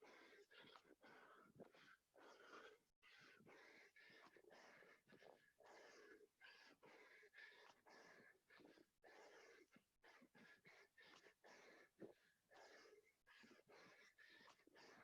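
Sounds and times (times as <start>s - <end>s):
man panting: 0.0s - 15.0s.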